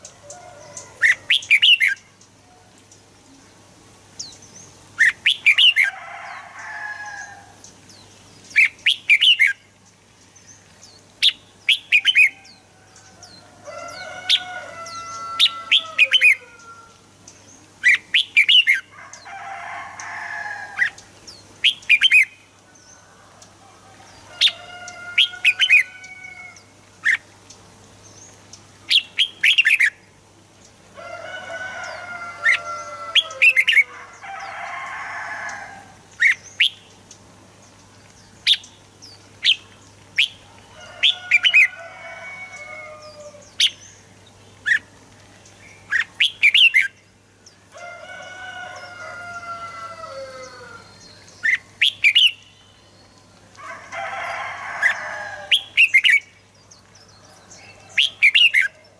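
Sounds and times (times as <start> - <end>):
birds chirping and warbling: 0.0 - 58.9
faint steady hum: 0.0 - 58.9.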